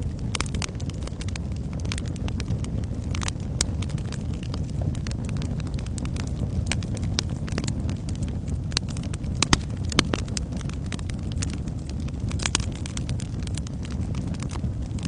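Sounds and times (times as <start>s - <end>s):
fire crackling in fireplace: 0.0s - 15.0s
low rumble of flames: 0.0s - 15.0s.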